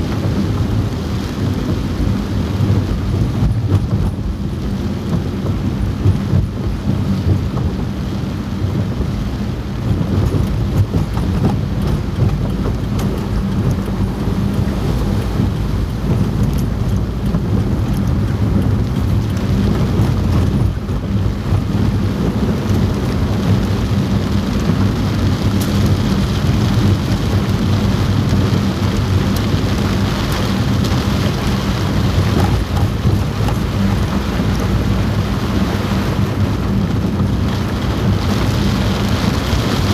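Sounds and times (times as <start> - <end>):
car hum while driving: 0.0 - 39.9
heavy rain on car roof: 0.0 - 39.9.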